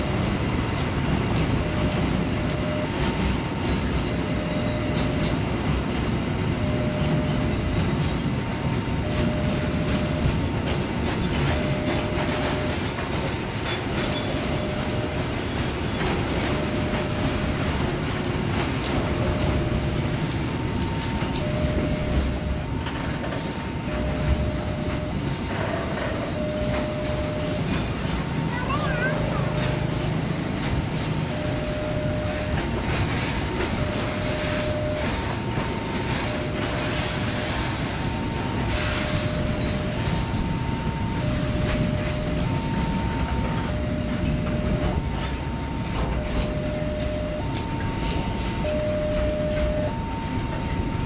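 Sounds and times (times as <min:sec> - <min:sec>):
freight train rolling on rails: 0:00.0 - 0:51.0
two-tone crossing warning signal: 0:00.0 - 0:51.0.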